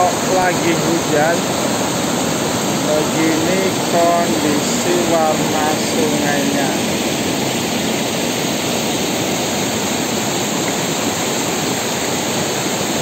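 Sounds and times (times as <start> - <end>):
river rushing over a weir: 0.0 - 13.0.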